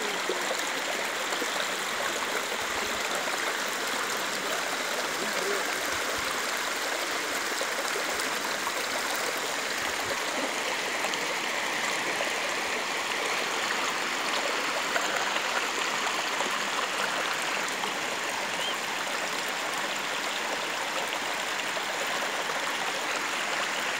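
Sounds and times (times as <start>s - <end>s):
waterfall cascading: 0.0s - 23.9s.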